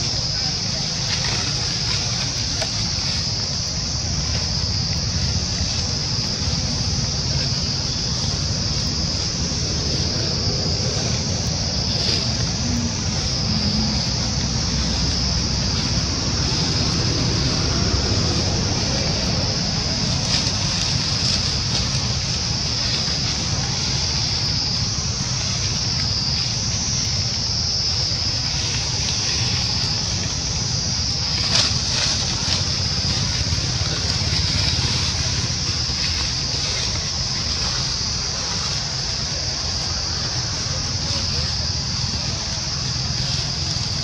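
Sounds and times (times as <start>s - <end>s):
insect chorus: 0.0s - 44.0s
low rumbling noise: 0.0s - 44.0s.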